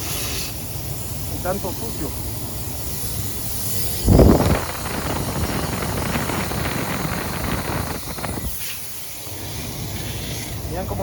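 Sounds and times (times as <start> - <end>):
sputtering gas hiss: 0.0 - 11.0.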